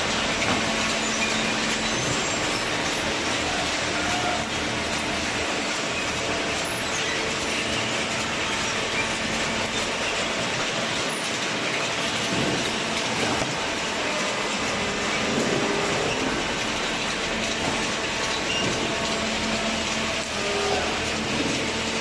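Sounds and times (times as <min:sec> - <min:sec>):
machinery running: 0:00.0 - 0:22.0.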